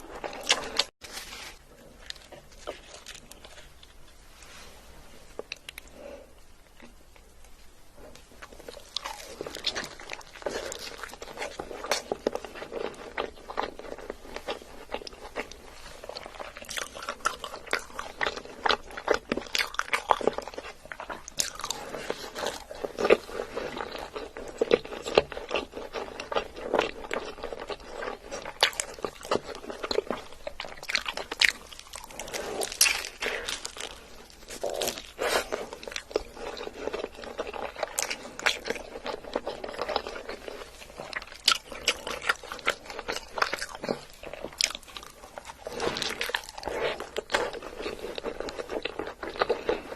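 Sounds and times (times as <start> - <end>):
person chewing crunchy food: 0.0 - 4.6, 8.1 - 49.9.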